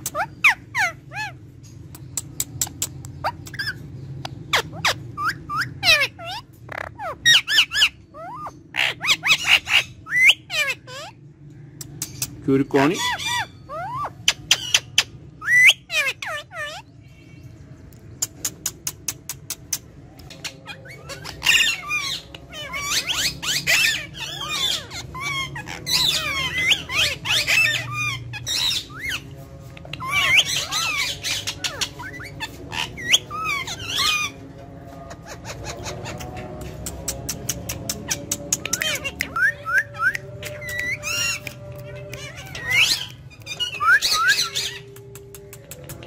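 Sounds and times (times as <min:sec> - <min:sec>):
parakeets squawking: 0:00.0 - 0:44.9.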